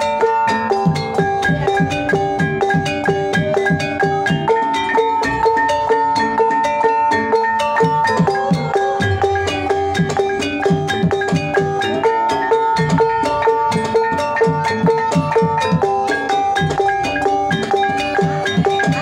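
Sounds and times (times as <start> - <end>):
gamelan gongs and metallophones: 0.0 - 19.0
hand drum strokes: 0.0 - 19.0.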